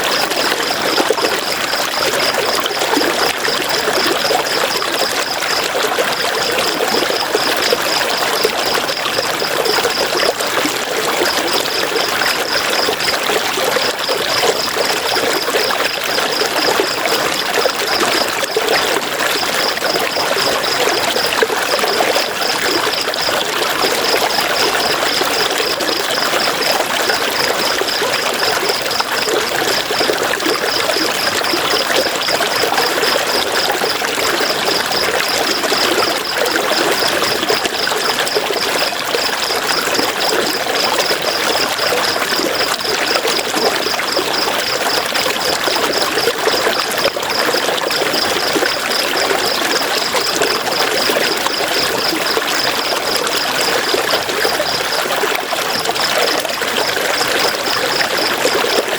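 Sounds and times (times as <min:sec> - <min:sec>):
river water flowing over stones: 0:00.0 - 0:58.9.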